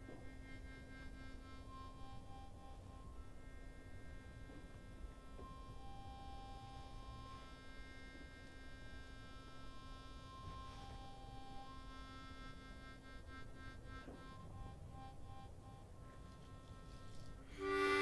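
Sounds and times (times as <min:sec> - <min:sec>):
faint steady hum: 0:00.0 - 0:18.0
harmonica long held notes: 0:00.0 - 0:18.0.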